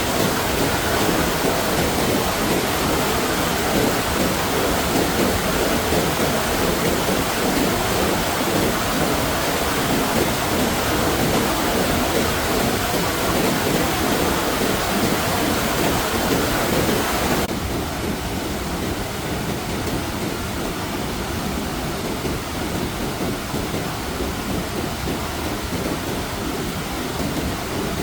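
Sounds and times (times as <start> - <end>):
flood water rushing: 0.0 - 28.0.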